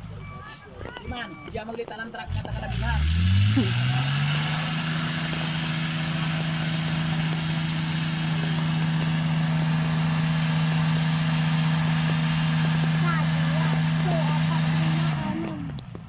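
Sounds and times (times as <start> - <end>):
truck engine at high revs: 2.1 - 16.0.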